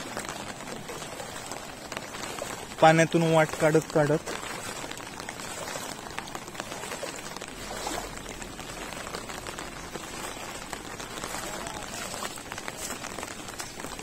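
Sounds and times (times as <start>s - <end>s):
rain falling on floodwater: 0.0s - 14.0s.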